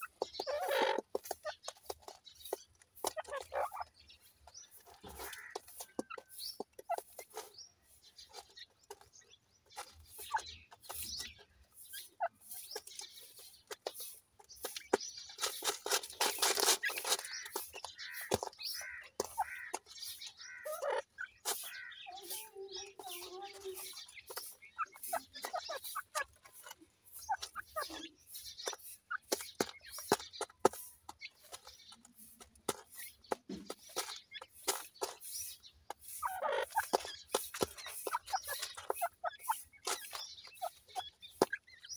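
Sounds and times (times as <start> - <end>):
soft clucks: 0.0 - 7.5, 9.8 - 35.3, 35.9 - 41.9
chicks cheeping: 0.0 - 41.9.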